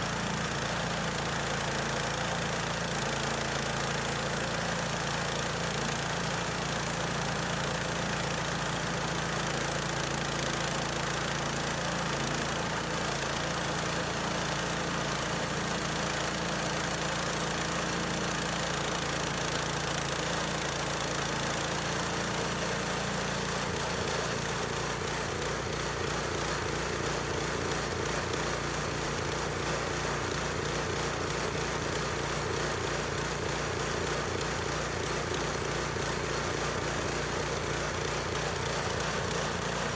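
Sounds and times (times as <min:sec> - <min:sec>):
small sawmill engine running: 0:00.0 - 0:39.9.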